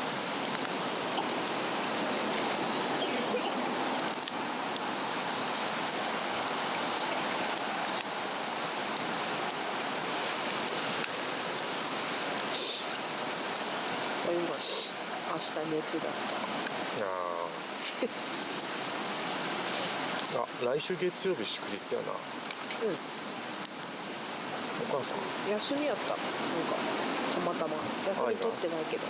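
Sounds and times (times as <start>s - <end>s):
brook flowing: 0.0s - 29.0s
wood fire crackling: 0.0s - 29.0s.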